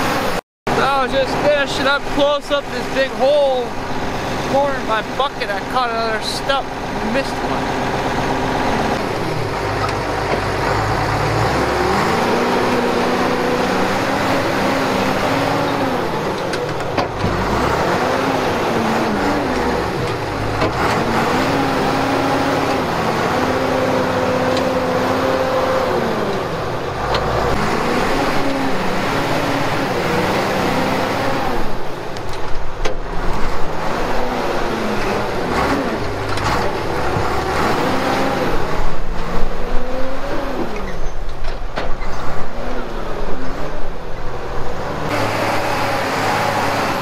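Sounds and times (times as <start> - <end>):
diesel engine revving under load: 0.0 - 47.0.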